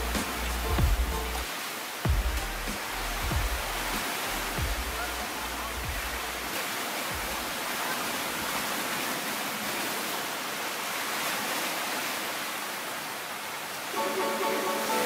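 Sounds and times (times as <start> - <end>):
ocean surf washing onto shore: 0.0 - 15.0.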